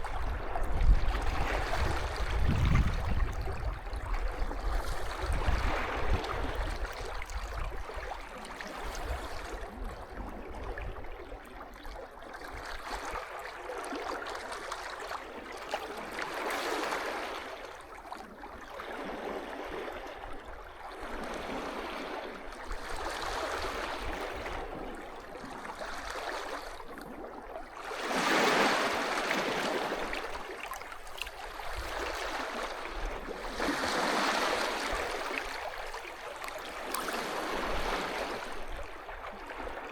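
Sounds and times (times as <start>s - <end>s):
small sea waves on a beach: 0.0s - 39.9s.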